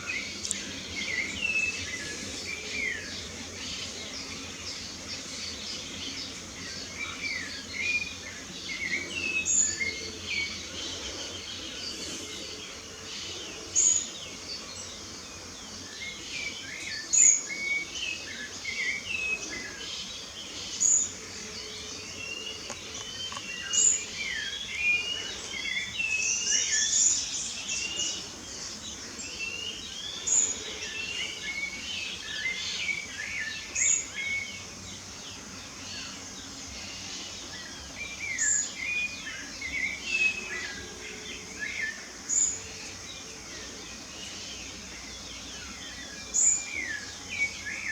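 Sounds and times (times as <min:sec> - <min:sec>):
birds singing: 0:00.0 - 0:47.9.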